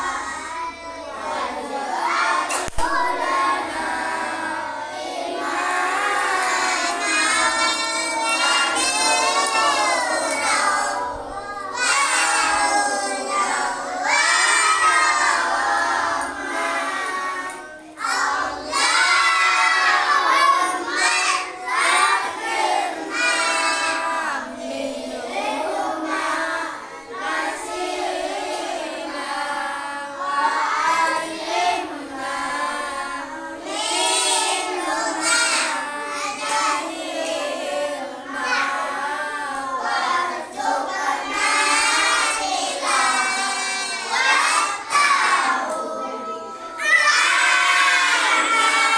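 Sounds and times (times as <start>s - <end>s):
children chanting a prayer: 0.0s - 48.9s.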